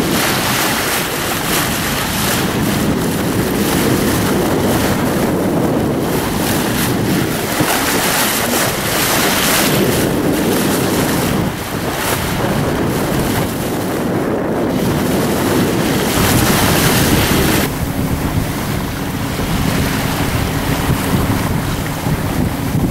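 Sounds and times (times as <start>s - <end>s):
sea water rushing along hull: 0.0s - 22.9s
wind buffeting microphone: 0.0s - 22.9s.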